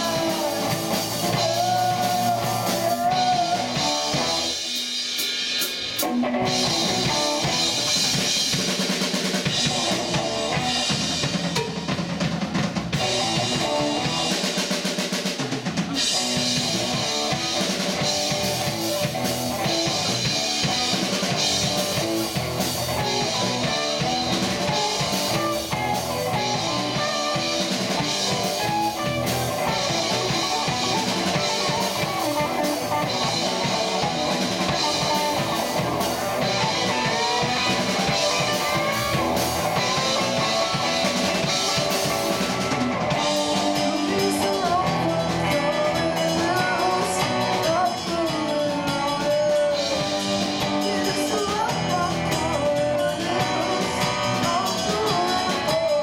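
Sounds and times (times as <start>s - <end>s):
rock band playing instrumental: 0.0s - 56.0s.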